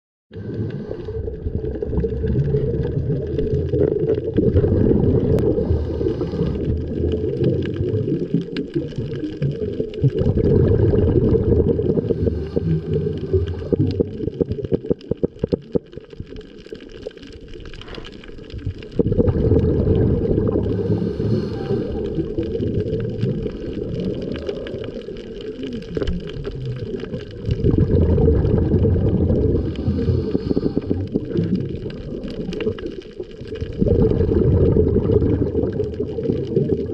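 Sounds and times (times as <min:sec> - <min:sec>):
muffled underwater water rumble: 0:00.3 - 0:36.9.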